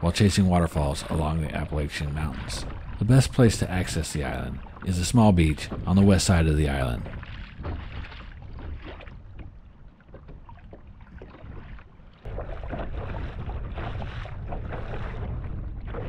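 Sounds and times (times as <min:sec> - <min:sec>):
water splashing against a hull: 0:00.0 - 0:16.0
wind rumbling on microphone: 0:00.0 - 0:16.0.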